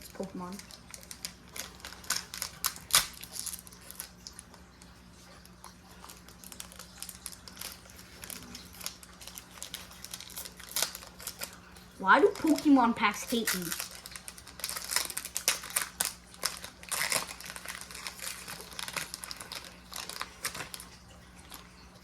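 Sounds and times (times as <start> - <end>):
foil wrapper crinkling and tearing: 0.0 - 22.0.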